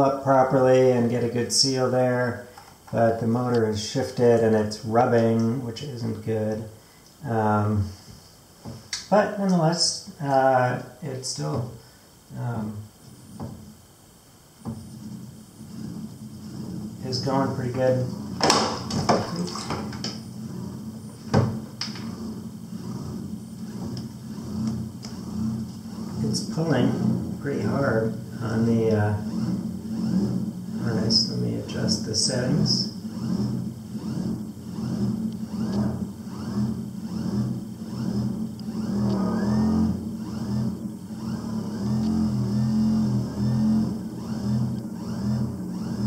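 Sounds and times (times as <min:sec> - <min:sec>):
motor low hum: 0:00.0 - 0:46.0.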